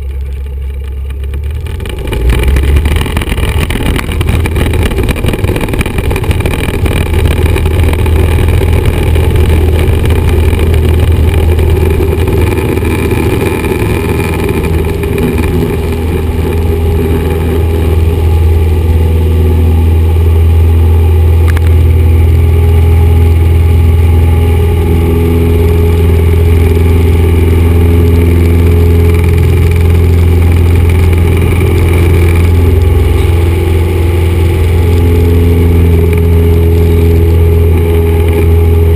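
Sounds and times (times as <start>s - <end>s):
airplane engine drone in cabin: 0.0s - 38.9s.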